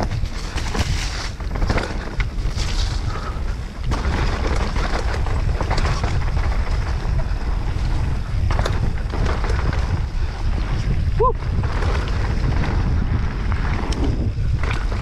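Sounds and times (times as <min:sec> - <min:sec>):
bike rattling over bumps: 0:00.0 - 0:15.0
bike tyre noise: 0:00.0 - 0:15.0
wind rumbling on microphone: 0:00.0 - 0:15.0.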